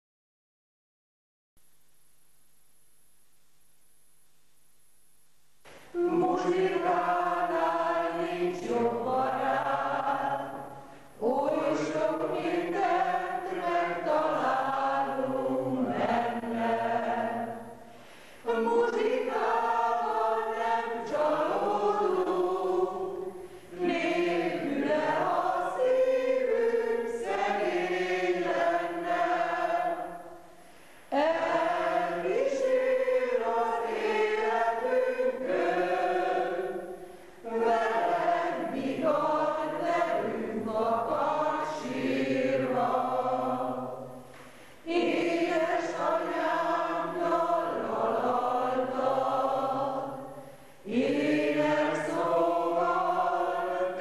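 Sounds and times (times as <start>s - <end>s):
choir singing: 5.9s - 30.5s, 31.1s - 54.0s.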